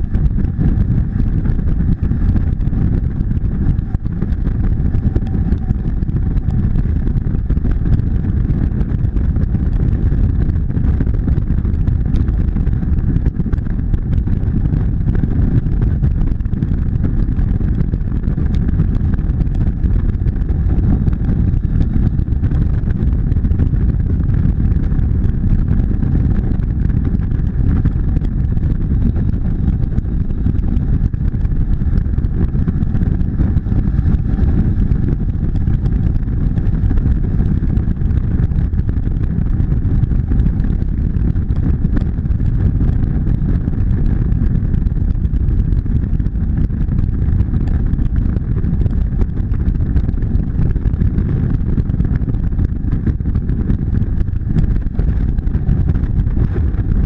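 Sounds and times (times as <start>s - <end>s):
motorcycle engine cruising: 0.0s - 57.0s
wind rumble on microphone: 0.0s - 57.0s.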